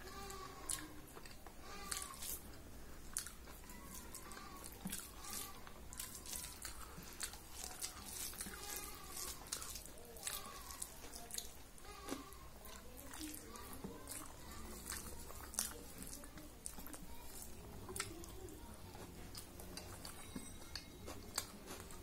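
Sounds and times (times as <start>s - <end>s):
wet chewing and lip-smacking: 0.2s - 22.0s.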